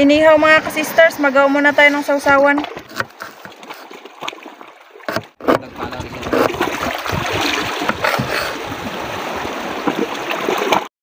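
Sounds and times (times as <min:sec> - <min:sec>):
sea water rushing: 0:00.0 - 0:10.9.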